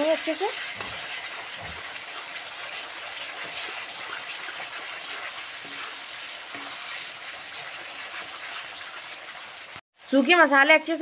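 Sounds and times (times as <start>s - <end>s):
steel spoon stirring: 0.0s - 9.7s
spices sizzling in oil: 0.0s - 11.0s.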